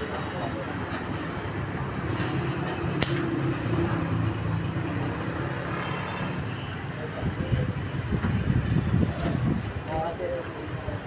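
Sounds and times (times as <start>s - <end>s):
vehicle engine humming: 0.0s - 9.8s
street traffic: 0.0s - 11.0s.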